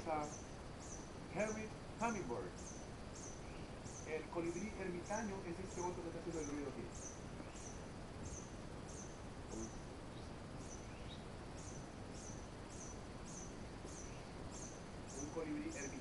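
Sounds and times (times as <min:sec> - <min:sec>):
hummingbird squeaking song: 0:00.0 - 0:16.0
jungle background hiss: 0:00.0 - 0:16.0.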